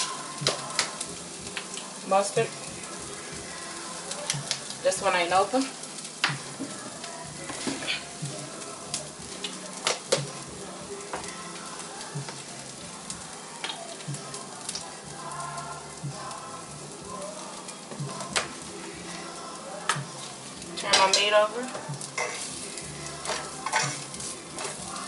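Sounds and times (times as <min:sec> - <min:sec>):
patties sizzling in skillet: 0:00.0 - 0:25.0.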